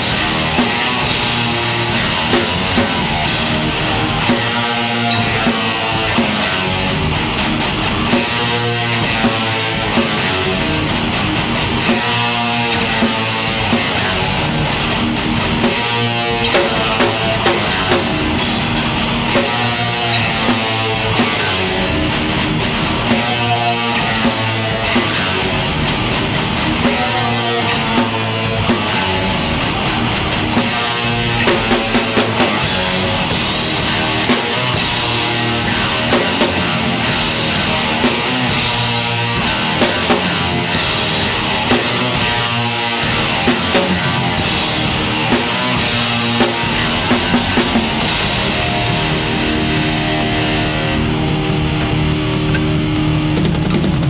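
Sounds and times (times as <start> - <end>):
loud drumming: 0.0 - 54.0
rock band playing: 0.0 - 54.0.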